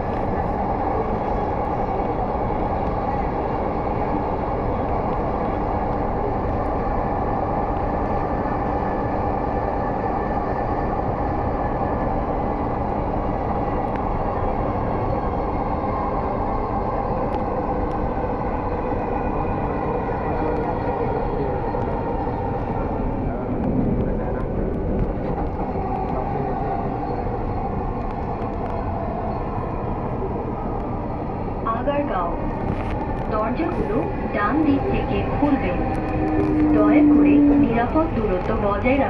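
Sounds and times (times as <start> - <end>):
electric train rumble: 0.0 - 39.0.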